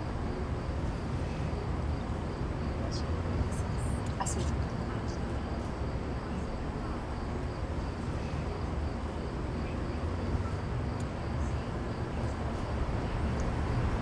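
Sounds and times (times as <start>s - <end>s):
faint high hum: 0.0s - 14.0s.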